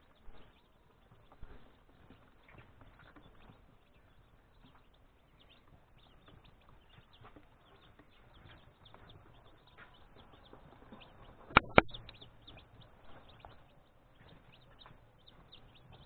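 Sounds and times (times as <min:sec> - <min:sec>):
young chicks peeping: 0:00.0 - 0:16.0.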